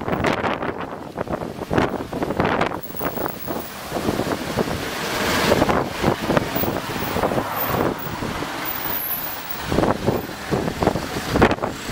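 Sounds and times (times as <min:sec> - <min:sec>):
cars and truck driving past: 0:02.0 - 0:11.9.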